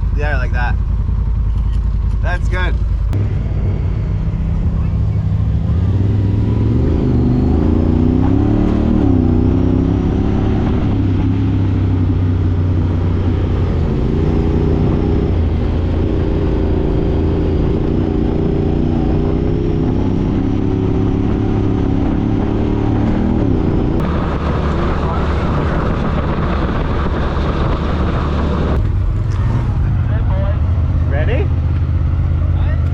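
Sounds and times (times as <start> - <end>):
utility vehicle engine running: 0.0 - 32.9.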